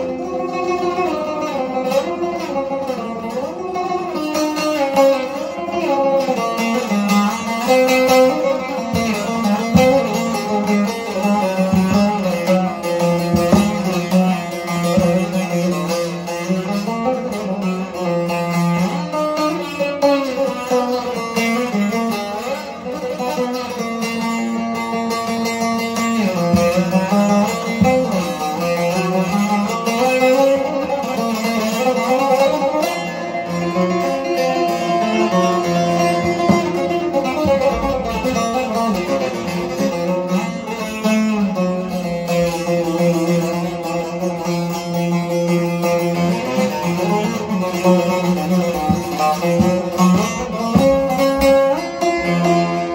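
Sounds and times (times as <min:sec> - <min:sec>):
plucked long-necked lute melody: 0:00.0 - 0:52.9.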